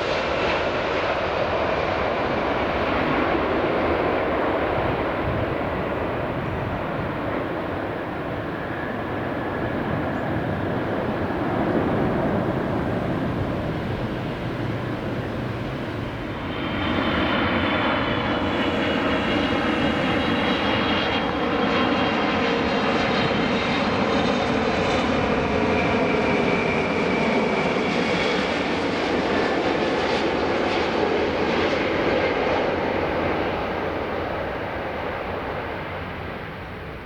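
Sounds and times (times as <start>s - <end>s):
jet airliner engines roaring: 0.0s - 37.0s.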